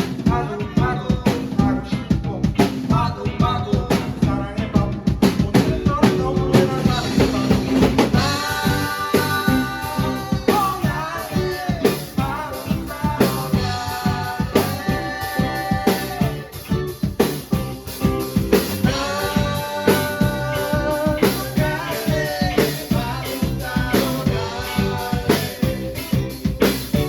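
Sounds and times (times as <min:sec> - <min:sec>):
bass: 0:00.0 - 0:27.0
drum kit beat: 0:00.0 - 0:27.0.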